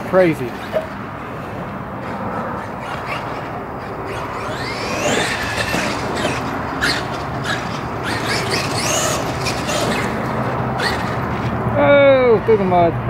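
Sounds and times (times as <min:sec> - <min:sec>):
electric motor whining: 0:00.6 - 0:11.7.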